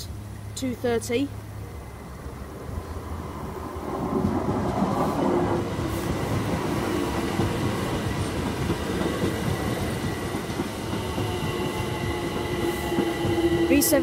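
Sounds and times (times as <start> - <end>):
electric train whine: 1.3 - 14.0
train wheels rumbling over rails: 2.0 - 14.0.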